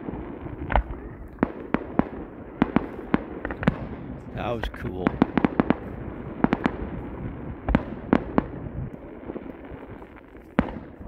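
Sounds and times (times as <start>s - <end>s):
fireworks bangs: 0.0s - 11.0s
fireworks display rumble: 0.0s - 11.0s.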